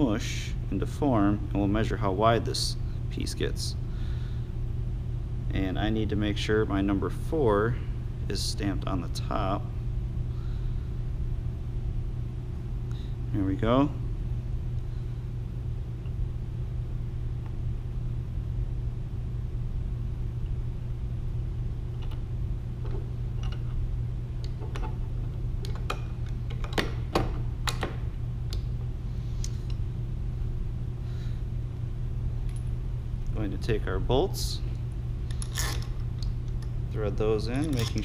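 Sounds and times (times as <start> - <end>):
low room hum: 0.0 - 38.0.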